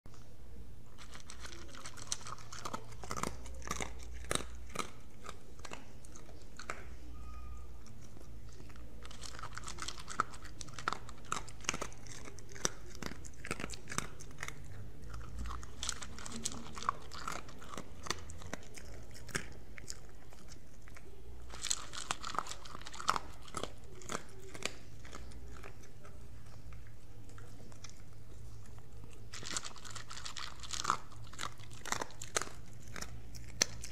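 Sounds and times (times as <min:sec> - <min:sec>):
dog crunching food: 0:00.8 - 0:07.1, 0:07.7 - 0:33.9.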